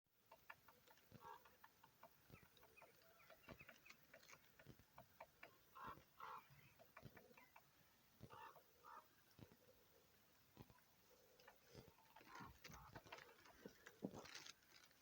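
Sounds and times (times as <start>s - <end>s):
woodpecker tapping on wood: 0.2s - 9.6s, 10.5s - 15.0s
jackdaws and crows calling: 0.2s - 15.0s.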